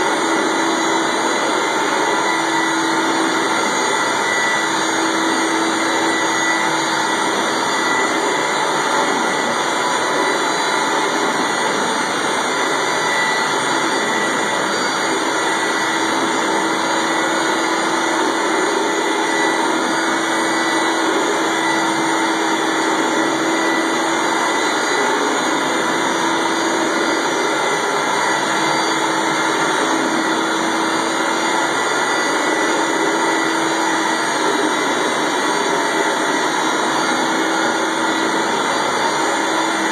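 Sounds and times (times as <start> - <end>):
carpet extractor running: 0.0 - 39.9.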